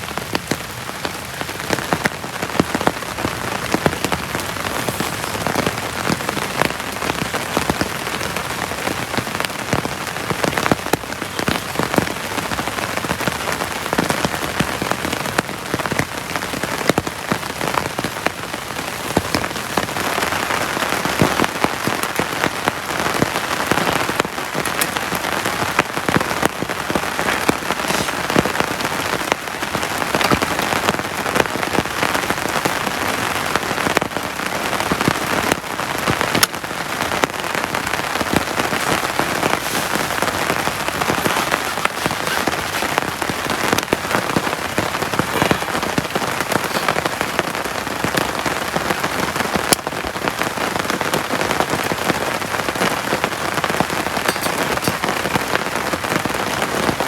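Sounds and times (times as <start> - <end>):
heavy rain falling: 0.0 - 57.0
raindrops ticking close by: 0.0 - 57.0.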